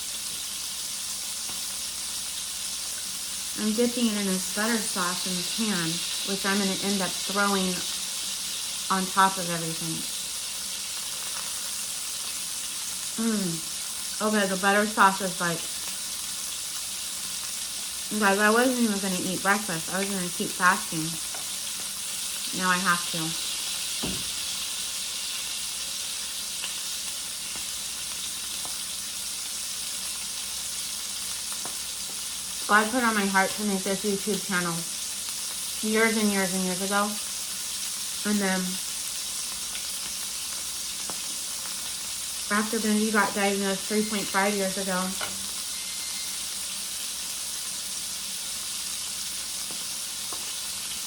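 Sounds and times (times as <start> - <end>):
steaks sizzling in a frying pan: 0.0 - 51.0.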